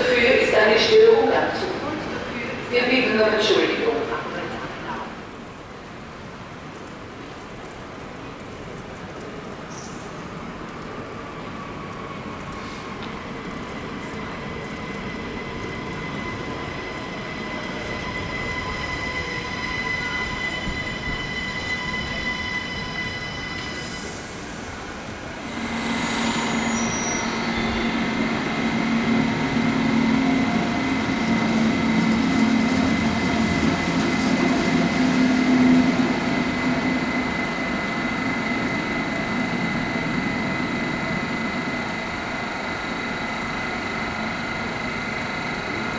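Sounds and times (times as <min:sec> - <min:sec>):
train rumble: 0:00.0 - 0:45.9
electric train whining: 0:08.5 - 0:45.9.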